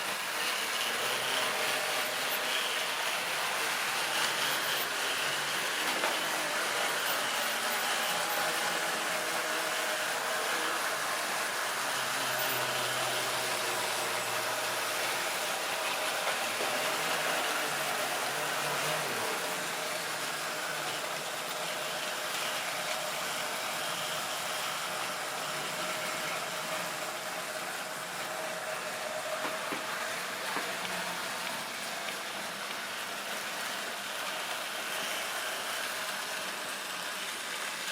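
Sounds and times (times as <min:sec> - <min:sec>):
model train motor humming: 0:00.0 - 0:37.9.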